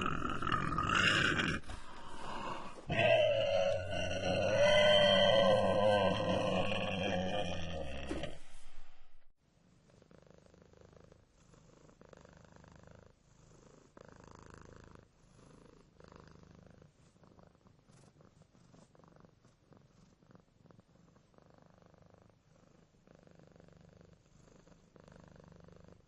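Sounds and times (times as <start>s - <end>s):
cat purring: 0.0s - 3.0s, 8.0s - 26.0s.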